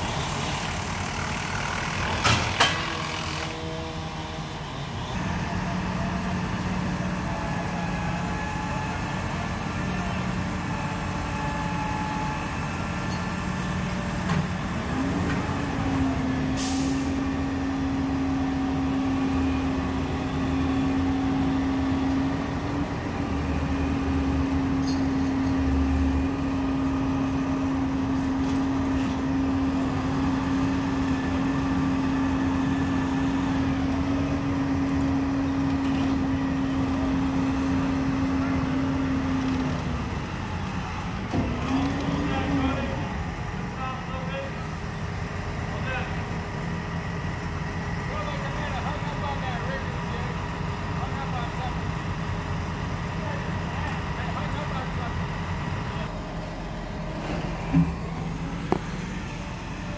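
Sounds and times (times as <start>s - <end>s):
truck engines running: 0.0s - 59.9s.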